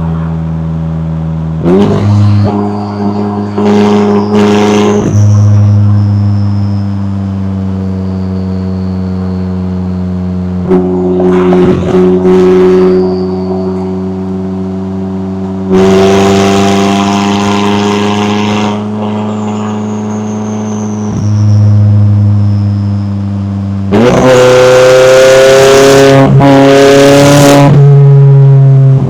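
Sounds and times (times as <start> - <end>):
sports car exhaust: 0.0 - 29.0.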